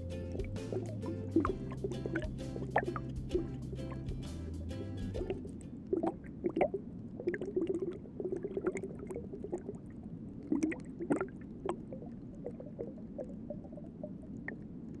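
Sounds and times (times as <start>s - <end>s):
water gurgling and bubbling: 0.4s - 4.2s, 5.2s - 15.0s.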